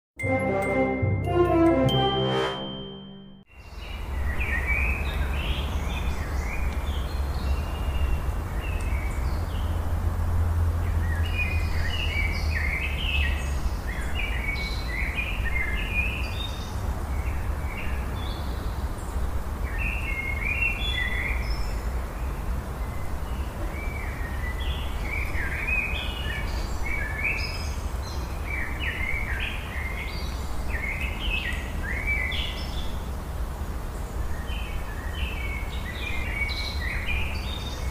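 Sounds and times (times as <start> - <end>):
small birds chirping: 3.5 - 10.0, 10.8 - 37.9.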